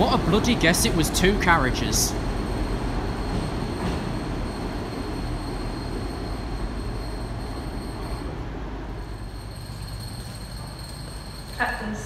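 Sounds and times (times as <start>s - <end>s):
diesel train engines running: 0.0s - 12.0s
train wheels on track: 0.0s - 12.0s.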